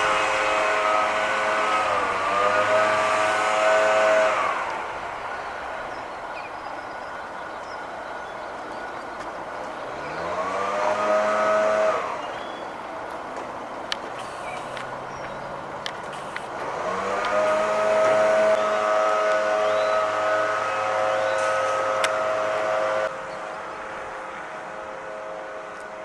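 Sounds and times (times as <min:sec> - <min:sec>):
cars passing by: 0:00.0 - 0:26.0.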